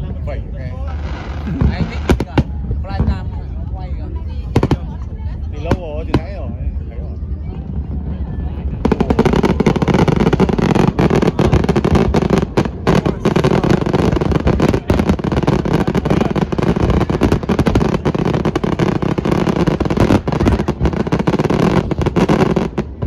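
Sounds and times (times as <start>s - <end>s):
fireworks bangs and crackles: 0.0s - 6.8s, 7.4s - 23.0s.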